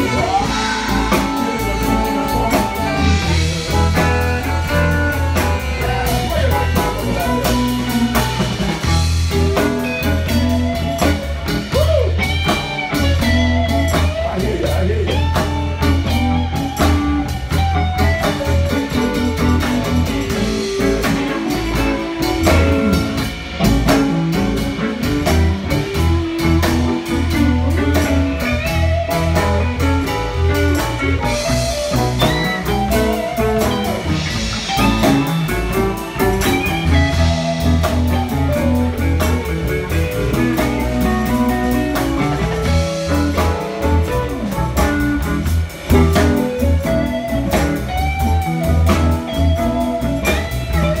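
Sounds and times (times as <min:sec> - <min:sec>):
bass guitar: 0:00.0 - 0:51.0
drum kit steady beat: 0:00.0 - 0:51.0
electric guitars bending notes: 0:00.0 - 0:51.0.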